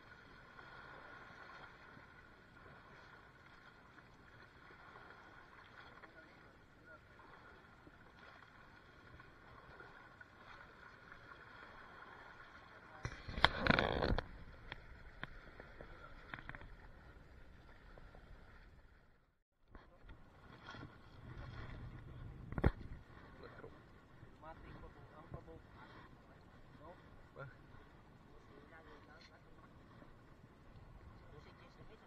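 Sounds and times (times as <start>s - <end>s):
water movement: 0.0s - 32.0s.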